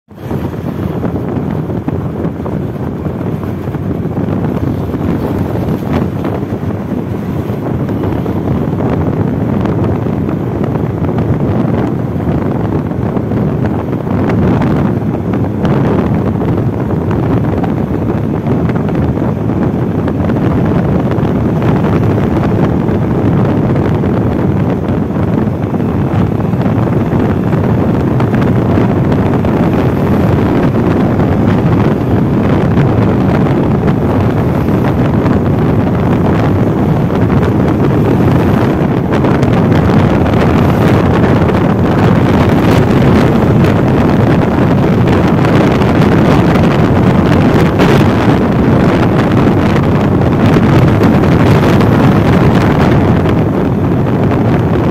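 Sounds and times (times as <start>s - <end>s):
road noise: 0.0s - 54.9s
motorcycle engine: 0.1s - 53.8s
wind buffeting microphone: 0.1s - 54.9s.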